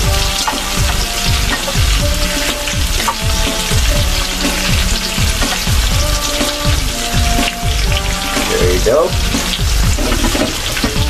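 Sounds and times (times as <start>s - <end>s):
music with thumping bass beat: 0.0s - 11.0s.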